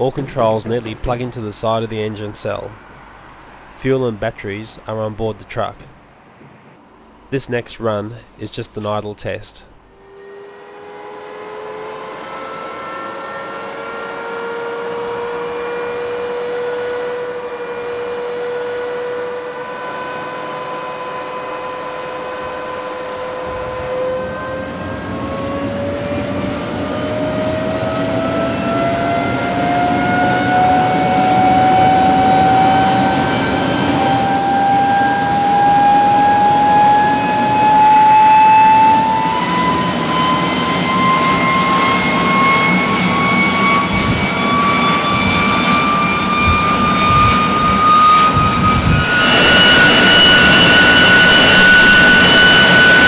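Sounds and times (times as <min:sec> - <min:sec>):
jet engine roar: 0:00.0 - 0:53.0
jet engine whine: 0:00.0 - 0:53.0.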